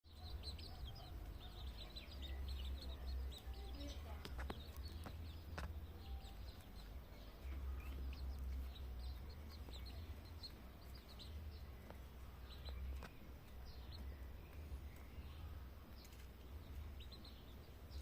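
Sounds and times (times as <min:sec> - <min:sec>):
chicks peeping: 0:00.1 - 0:18.0
steady low rumble: 0:00.3 - 0:18.0.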